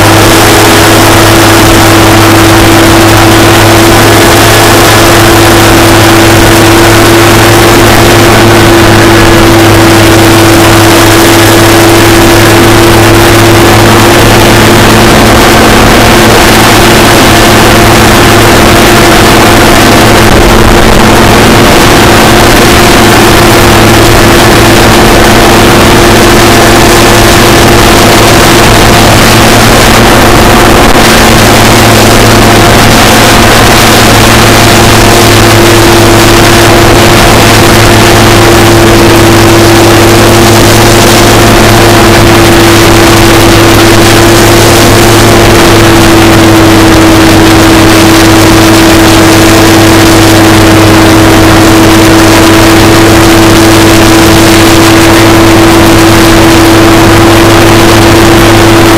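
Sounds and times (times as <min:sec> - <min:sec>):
hovercraft engine and propeller: 0:00.0 - 0:58.9.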